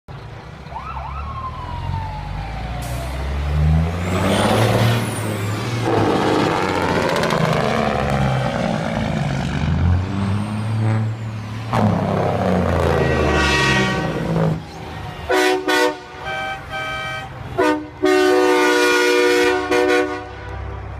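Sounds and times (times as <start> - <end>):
heavy truck engines passing: 0.1 - 20.9.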